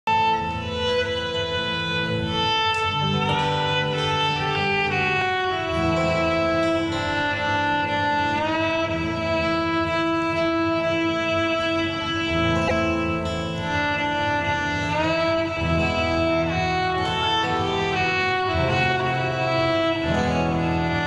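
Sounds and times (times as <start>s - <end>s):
instrumental music with held notes: 0.1s - 21.0s.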